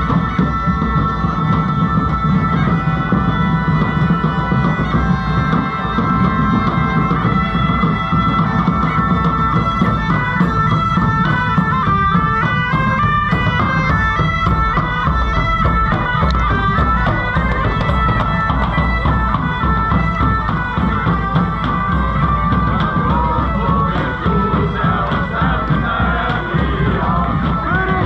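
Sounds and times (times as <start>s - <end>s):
bagpipes playing a melody: 0.0s - 28.0s
drum beating: 0.0s - 28.0s.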